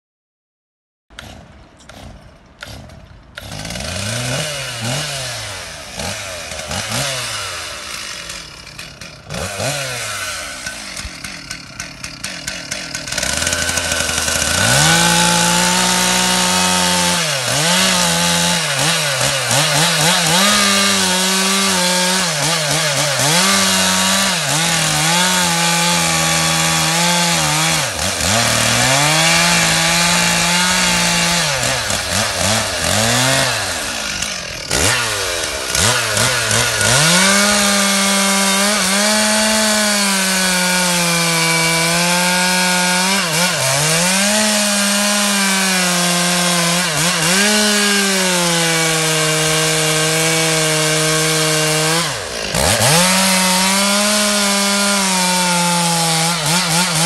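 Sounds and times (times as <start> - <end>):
chainsaw revving and cutting wood: 1.1 - 57.0.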